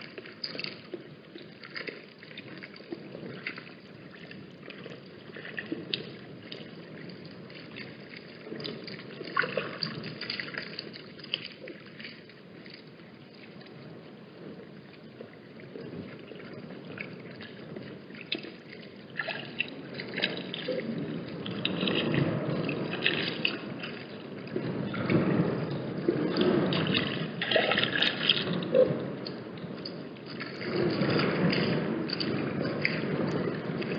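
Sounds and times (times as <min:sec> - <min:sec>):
small water splashes: 0:00.0 - 0:33.9
water trickling and dripping: 0:00.0 - 0:33.9
gusty wind: 0:02.6 - 0:33.9.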